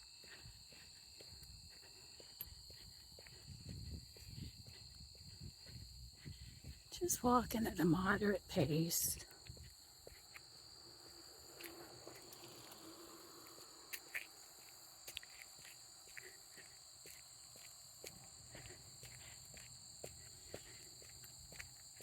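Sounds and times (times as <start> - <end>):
crickets chirring: 0.0 - 22.0
footsteps crunching on trail: 0.0 - 22.0.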